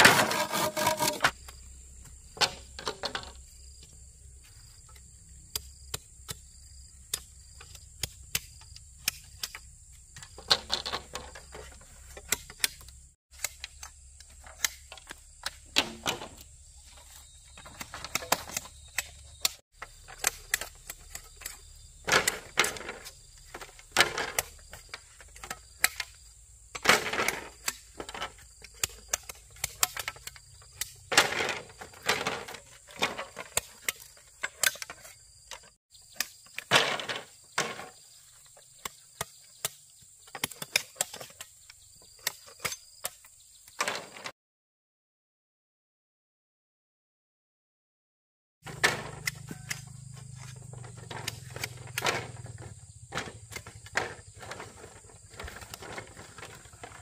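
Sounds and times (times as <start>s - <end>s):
knocks and scrapes on bamboo: 0.0s - 44.3s, 48.7s - 57.0s.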